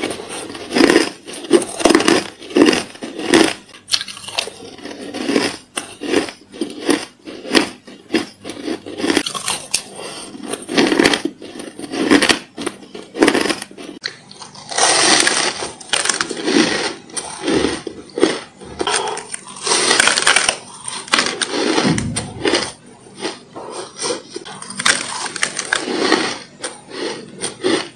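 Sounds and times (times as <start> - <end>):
crunching and chewing ice: 0.0 - 27.9.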